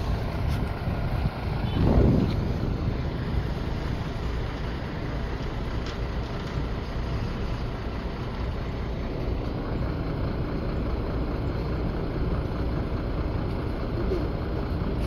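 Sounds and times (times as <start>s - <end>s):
heavy vehicle engine rumble: 0.0s - 15.0s.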